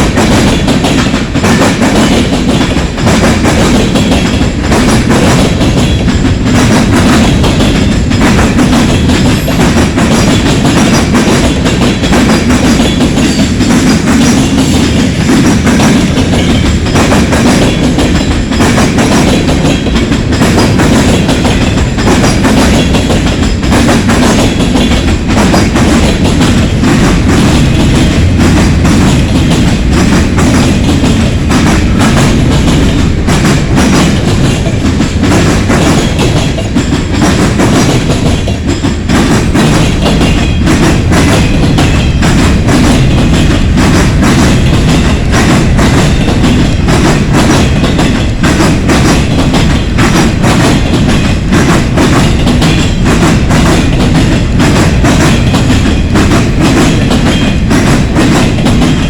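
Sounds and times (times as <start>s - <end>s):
freight train rumbling past: 0.0s - 59.0s
wheels clicking over rail joints: 0.0s - 59.0s.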